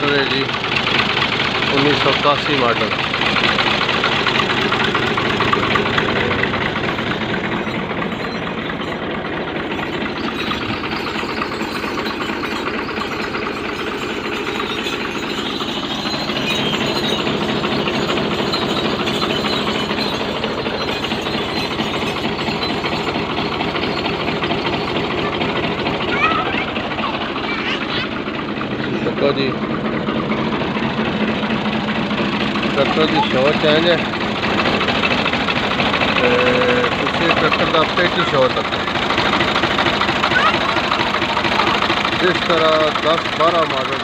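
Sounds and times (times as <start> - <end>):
tractor diesel engine chugging: 0.0 - 44.0.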